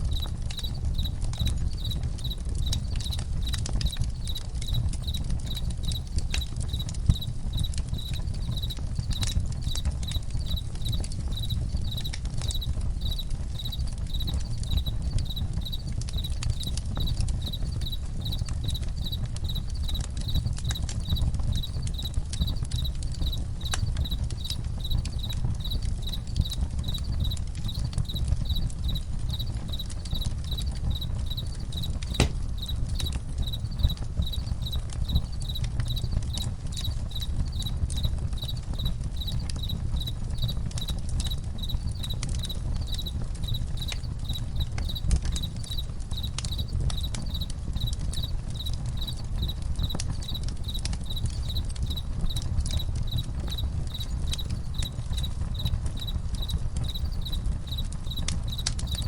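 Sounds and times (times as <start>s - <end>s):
campfire crackling and popping: 0.0s - 59.0s
crickets chirping: 0.1s - 59.0s.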